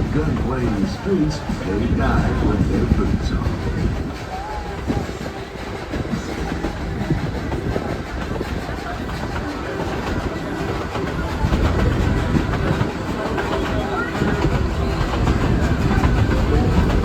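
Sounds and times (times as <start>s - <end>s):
train rumbling on track: 0.0s - 17.0s
wheels clacking over rails: 0.0s - 17.0s.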